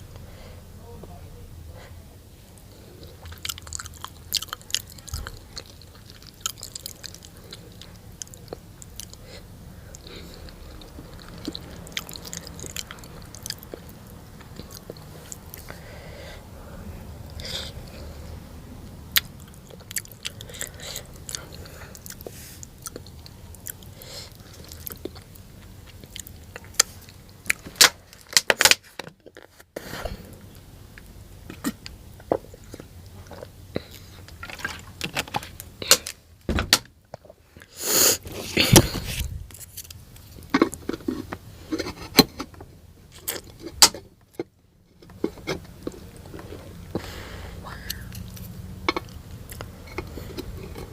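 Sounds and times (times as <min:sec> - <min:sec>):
person chewing and crunching: 0:02.6 - 0:16.0, 0:17.2 - 0:36.2, 0:37.1 - 0:42.5, 0:43.1 - 0:50.9.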